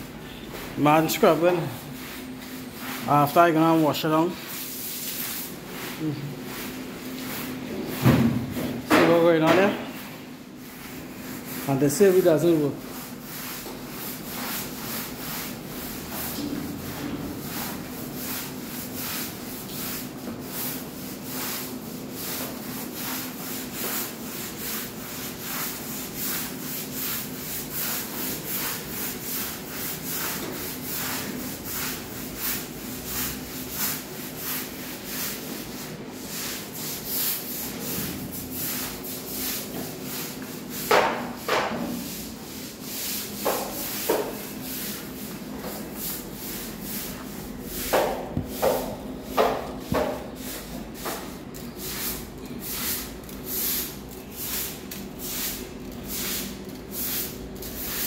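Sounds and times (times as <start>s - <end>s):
push broom scrubbing wet concrete: 0.8s - 7.6s, 10.7s - 58.0s.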